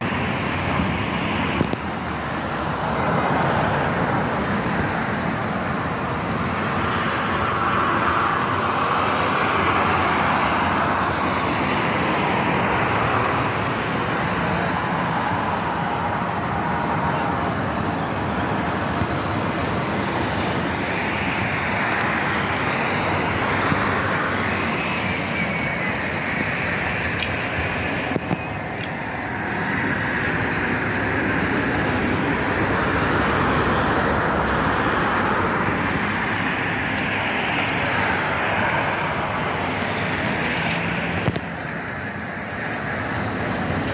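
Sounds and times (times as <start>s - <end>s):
sea surf washing ashore: 0.0s - 43.9s.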